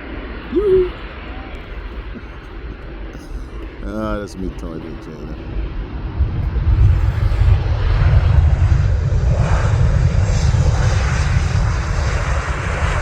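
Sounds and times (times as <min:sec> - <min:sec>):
jet engines rumbling overhead: 0:00.0 - 0:13.0.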